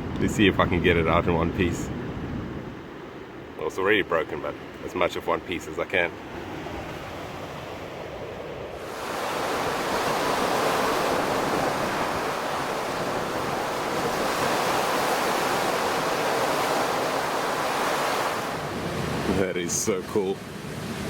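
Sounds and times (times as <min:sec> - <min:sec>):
surf on the coast: 0:00.0 - 0:21.0
wind: 0:00.0 - 0:21.0.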